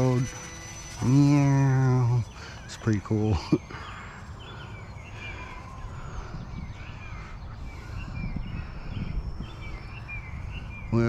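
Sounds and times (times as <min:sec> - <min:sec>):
birds chirping: 0:00.0 - 0:11.0
small electric motor whine: 0:00.0 - 0:11.0
wind buffeting microphone: 0:00.0 - 0:11.0.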